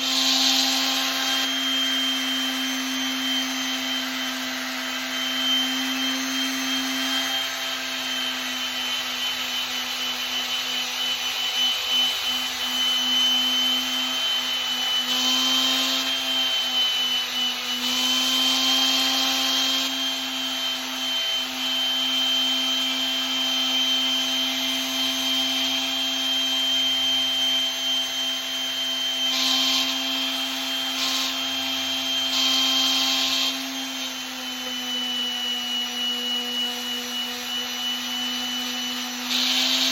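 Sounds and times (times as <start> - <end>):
electric sander whining: 0.0 - 39.9.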